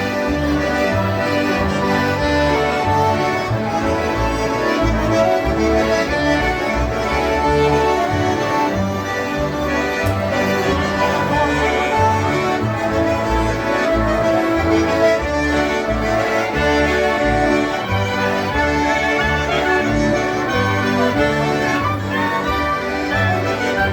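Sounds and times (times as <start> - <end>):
concertinas playing polka: 0.0 - 23.9.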